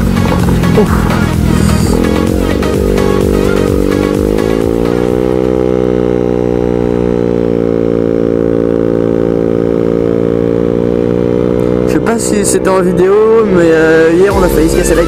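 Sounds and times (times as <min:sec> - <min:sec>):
scooter engine revving: 0:00.0 - 0:15.0.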